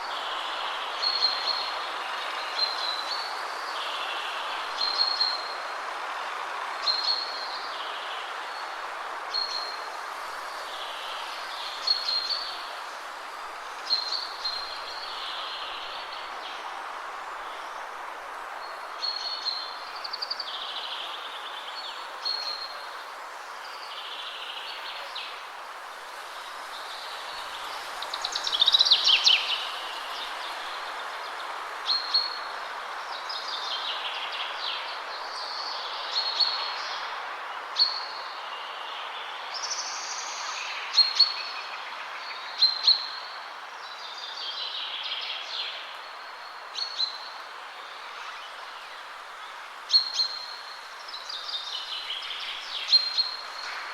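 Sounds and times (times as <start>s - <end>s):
songbirds singing and calling: 0.0s - 53.9s
wind rustling in trees: 0.0s - 53.9s.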